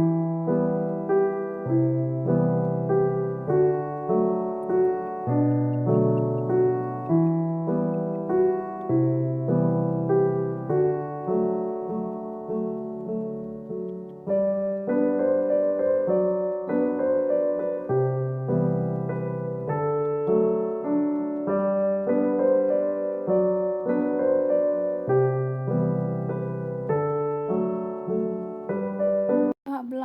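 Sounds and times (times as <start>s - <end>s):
gentle piano melody: 0.0s - 29.8s.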